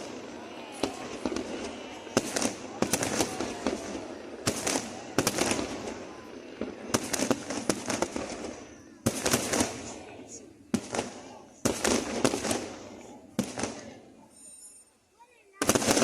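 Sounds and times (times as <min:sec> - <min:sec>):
fireworks bursting with bangs: 0:00.0 - 0:16.0
fireworks crackling: 0:00.0 - 0:16.0.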